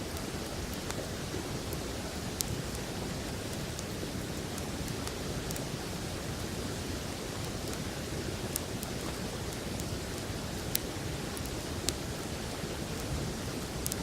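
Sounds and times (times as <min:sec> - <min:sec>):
campfire crackling and popping: 0:00.1 - 0:14.0.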